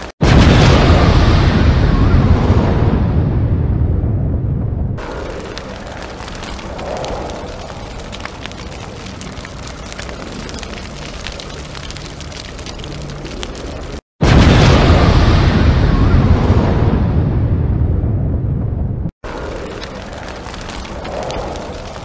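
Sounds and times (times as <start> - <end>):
rumbling crackling noise: 0.0 - 22.0.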